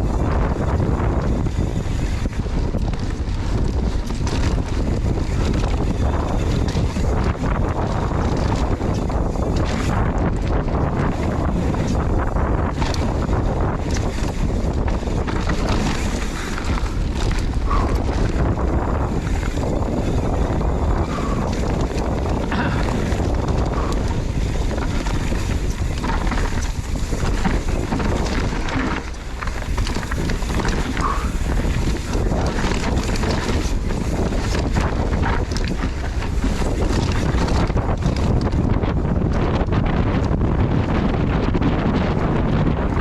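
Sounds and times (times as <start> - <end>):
bike clicks and rattles: 0.0 - 43.0
wind buffeting microphone: 0.0 - 43.0.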